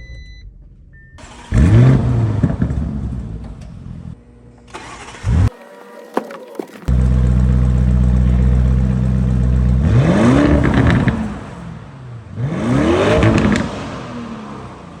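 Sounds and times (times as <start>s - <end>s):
car engine revving: 1.2s - 4.1s, 4.7s - 15.0s.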